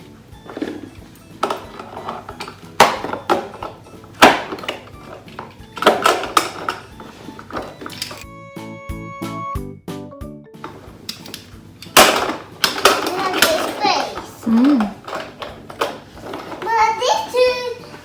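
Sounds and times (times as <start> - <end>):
plastic toys clacking and rattling: 0.4 - 8.2, 10.7 - 18.0.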